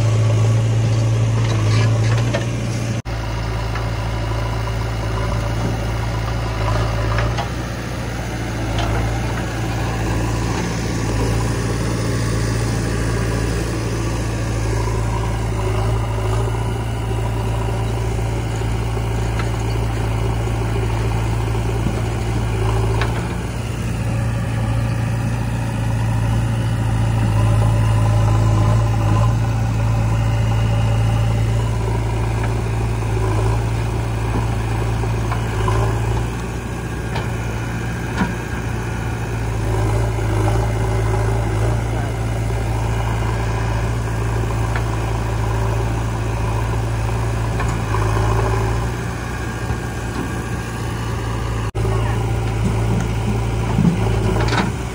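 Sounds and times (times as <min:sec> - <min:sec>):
diesel engines running: 0:00.0 - 0:54.9
engine straining under hydraulic load: 0:00.0 - 0:54.9.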